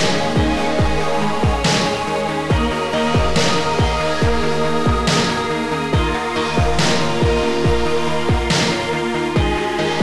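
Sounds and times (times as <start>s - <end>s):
sustained synthesizer chords: 0.0s - 10.0s.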